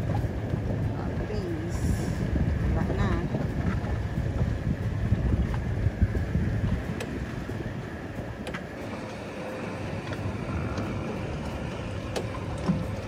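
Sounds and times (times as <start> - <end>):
choppy water around boat: 0.0 - 13.0
wind: 0.0 - 13.0.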